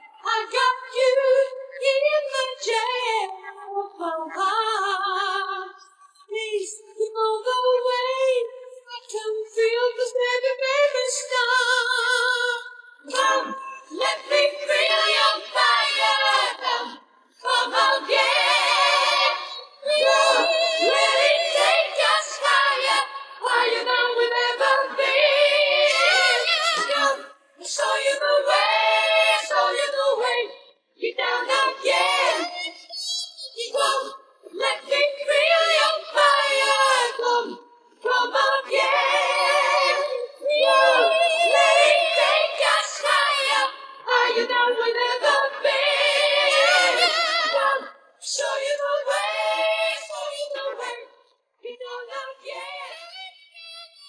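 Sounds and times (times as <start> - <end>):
person singing with vibrato: 0.0 - 54.0
several voices singing together: 6.6 - 53.4.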